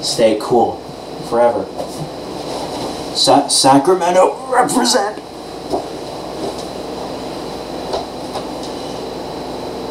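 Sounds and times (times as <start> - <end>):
room hum and hiss: 0.0 - 9.9.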